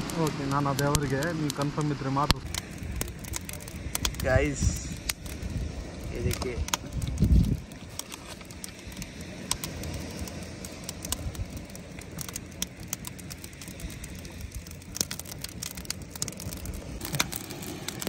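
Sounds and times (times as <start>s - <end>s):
low steady rumble: 0.0s - 18.0s
wood fire crackling and popping: 0.0s - 18.0s.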